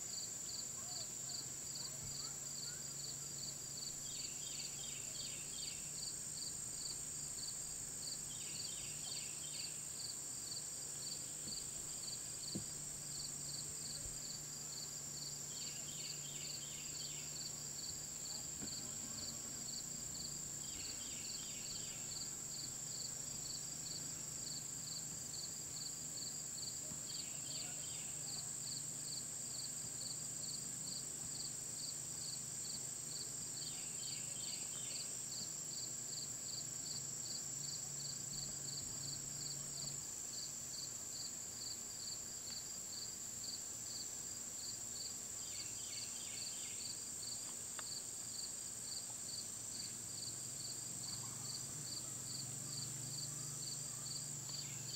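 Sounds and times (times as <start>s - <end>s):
cricket chirping: 0.0s - 54.9s
lower insect chirps: 0.1s - 54.9s.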